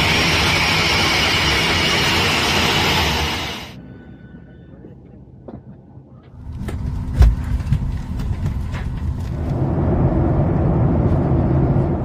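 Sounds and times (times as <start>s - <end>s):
low aircraft cabin rumble: 0.0s - 12.0s.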